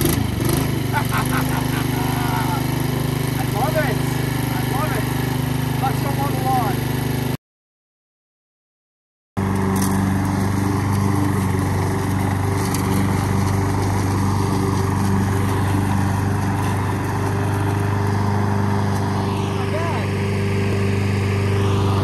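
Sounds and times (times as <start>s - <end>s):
lawn mower engine cutting grass: 0.0s - 7.4s, 9.4s - 22.0s.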